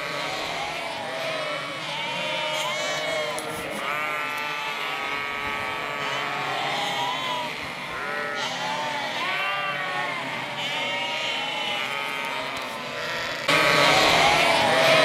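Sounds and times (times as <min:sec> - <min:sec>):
sheep and lambs bleating: 0:00.0 - 0:15.0.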